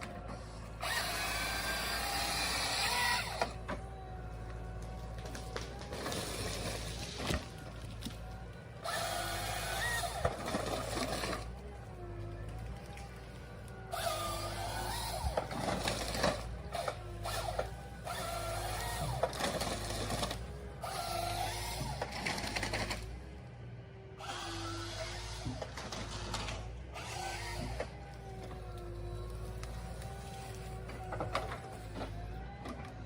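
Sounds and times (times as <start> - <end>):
harvester head rattling and grinding: 0.0 - 13.2, 13.9 - 23.3, 24.3 - 33.0
harvester engine running: 0.0 - 33.0
hydraulic whine: 0.0 - 33.0.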